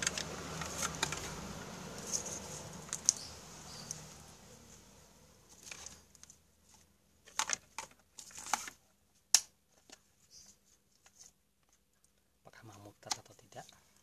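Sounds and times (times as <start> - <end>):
rustles and clicks of handling plastic: 0.0 - 4.2, 5.4 - 14.0.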